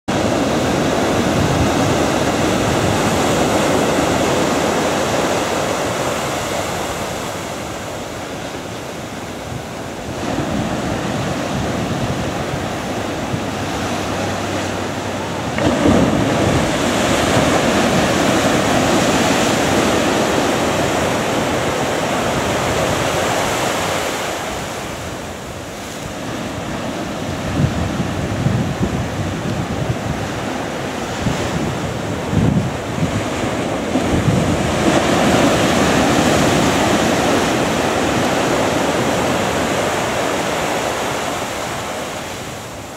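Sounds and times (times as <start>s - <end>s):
ocean surf breaking: 0.1s - 42.9s
wind gusting on microphone: 0.1s - 42.9s.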